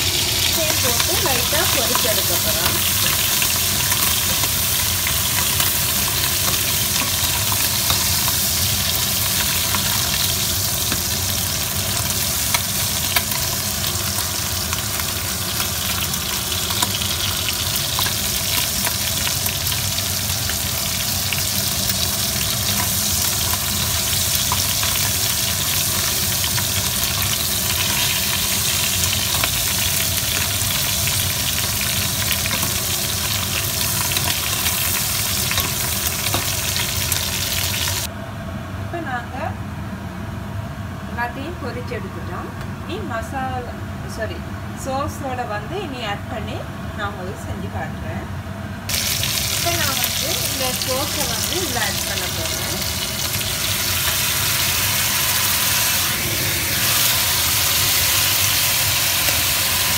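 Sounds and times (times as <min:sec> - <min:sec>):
seafood sizzling in hot oil: 0:00.0 - 0:38.1, 0:48.9 - 0:59.9.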